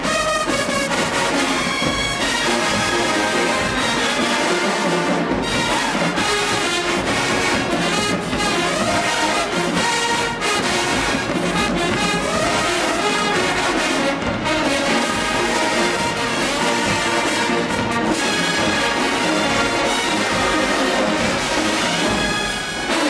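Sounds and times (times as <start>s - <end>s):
marching band brass playing: 0.0s - 23.0s.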